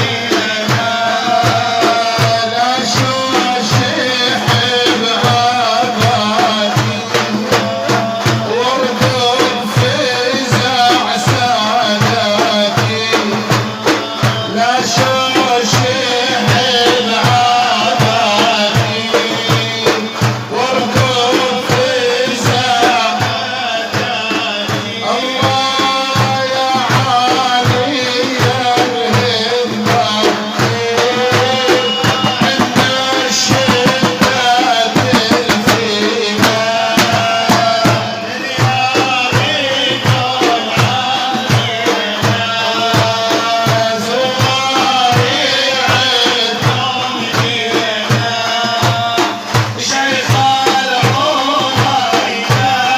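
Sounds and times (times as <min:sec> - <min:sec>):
fast hand drum beat: 0:00.0 - 0:52.9
person chanting a melody: 0:00.0 - 0:52.9.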